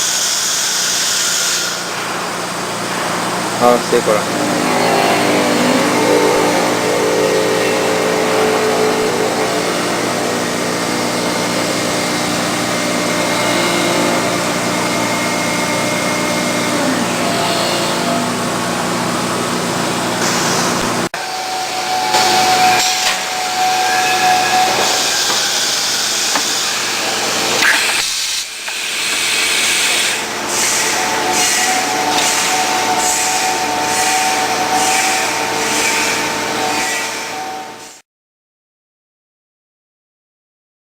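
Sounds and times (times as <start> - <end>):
cnc router whining and hissing: 0.0 - 38.0.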